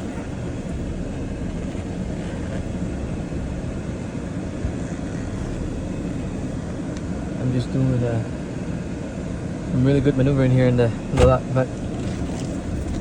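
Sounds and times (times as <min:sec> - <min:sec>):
truck engine and tyres rumbling: 0:00.0 - 0:13.0.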